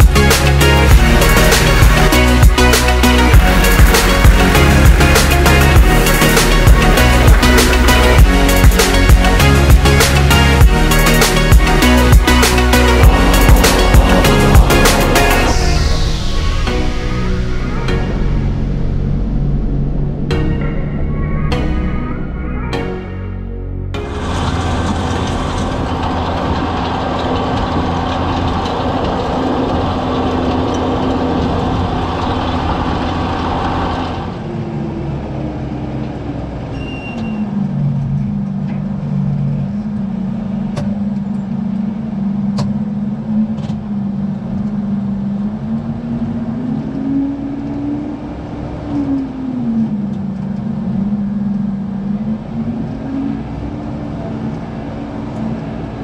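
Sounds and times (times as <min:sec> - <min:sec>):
tractor diesel engine under load: 0:00.0 - 0:22.8, 0:23.8 - 0:56.0.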